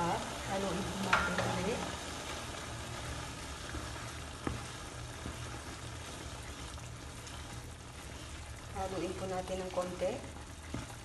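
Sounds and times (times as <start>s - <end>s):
cream boiling and bubbling: 0.0s - 11.0s
wooden spatula stirring: 0.1s - 11.0s.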